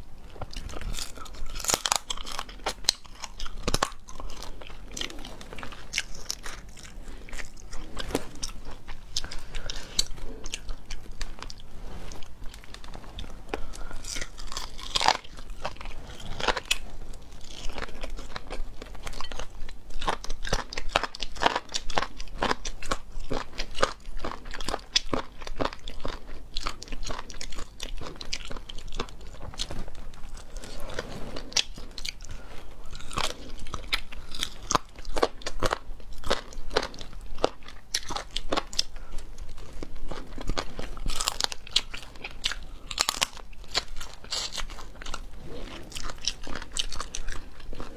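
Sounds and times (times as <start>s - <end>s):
chewing sounds: 0.2s - 47.9s
crunching of chicken bones: 0.4s - 11.0s, 13.6s - 16.8s, 17.4s - 30.9s, 31.5s - 45.3s.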